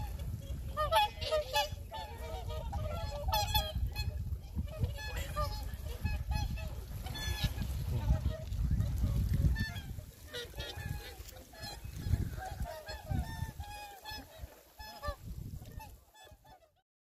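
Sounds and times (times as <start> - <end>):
swans honking: 0.0 - 16.8.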